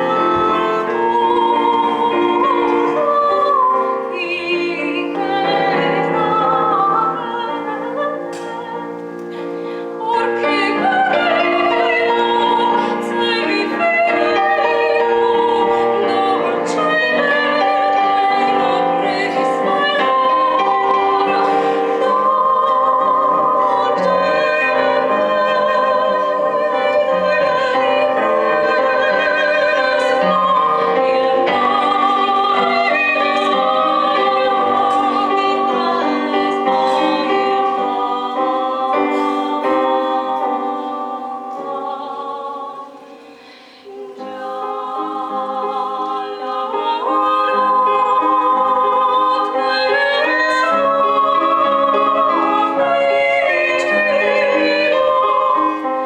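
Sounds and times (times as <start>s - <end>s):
piano: 0.0s - 56.0s
women singing operatic duet: 0.0s - 56.0s.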